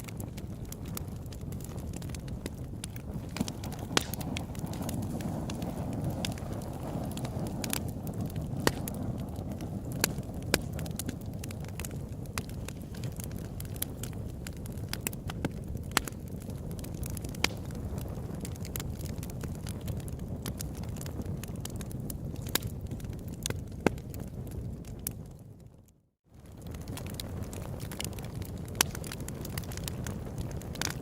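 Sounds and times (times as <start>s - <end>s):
campfire flames rumbling: 0.0s - 31.0s
fire crackles and pops: 0.0s - 31.0s.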